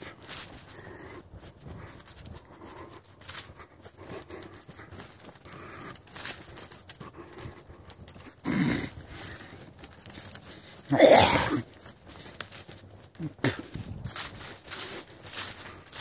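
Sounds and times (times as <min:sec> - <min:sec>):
footsteps crunching dry leaves: 0:00.0 - 0:16.0
leaves rustling: 0:00.0 - 0:16.0.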